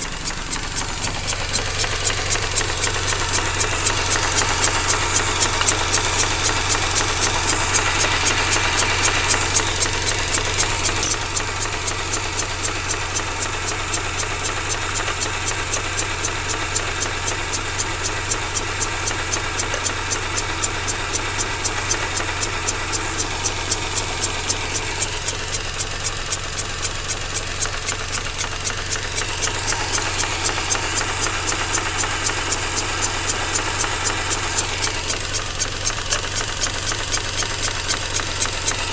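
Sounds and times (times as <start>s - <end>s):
rotary engine idling roughly: 0.0s - 38.9s
sharp engine knock: 0.0s - 38.9s
valve ticking: 0.0s - 38.9s.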